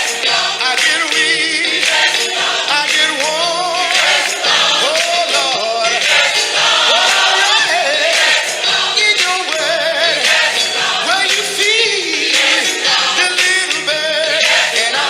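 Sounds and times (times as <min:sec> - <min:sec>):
gospel singing: 0:00.0 - 0:15.0
instrumental accompaniment: 0:00.0 - 0:15.0.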